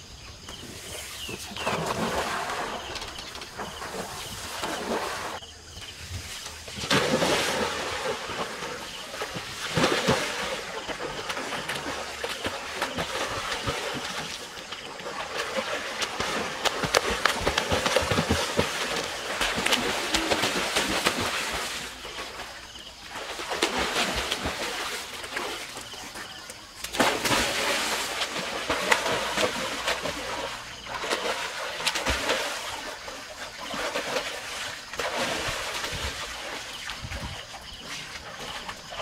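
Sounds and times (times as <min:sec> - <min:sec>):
water splashing in a pool: 0:00.0 - 0:39.0.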